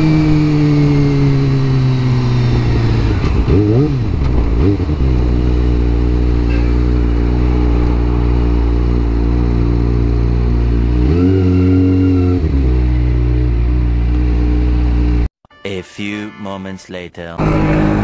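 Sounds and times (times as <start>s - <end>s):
motorcycle engine revving: 0.0s - 15.3s, 17.4s - 18.0s.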